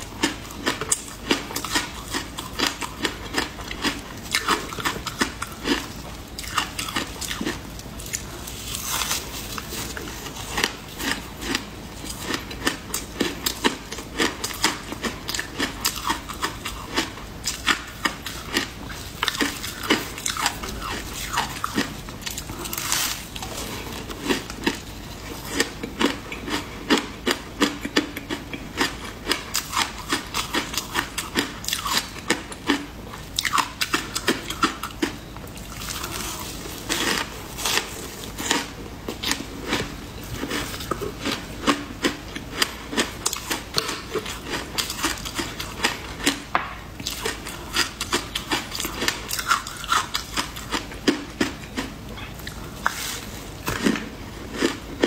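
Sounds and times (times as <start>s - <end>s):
ice crunching between teeth: 0.0s - 46.4s.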